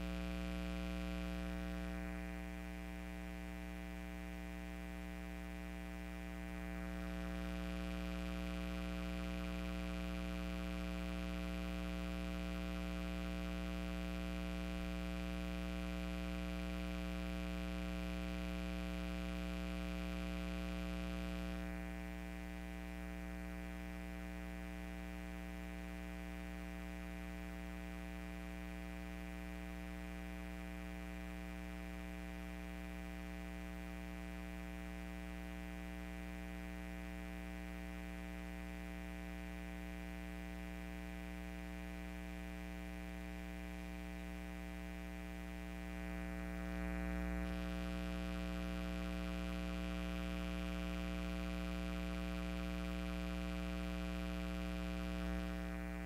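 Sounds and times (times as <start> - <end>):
steady electrical buzz: 0.0 - 56.0.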